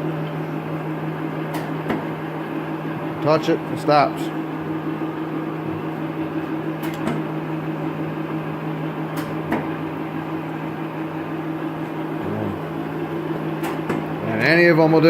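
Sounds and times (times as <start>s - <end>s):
lathe motor humming: 0.0s - 15.0s.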